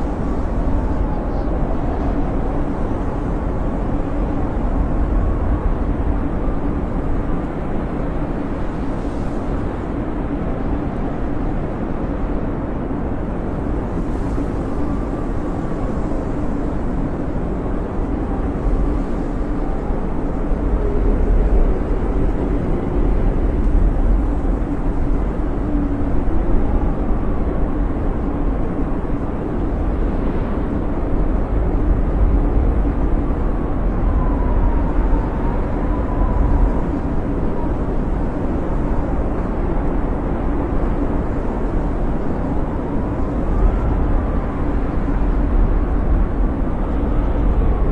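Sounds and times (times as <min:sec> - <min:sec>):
wind howling: 0:00.0 - 0:47.9.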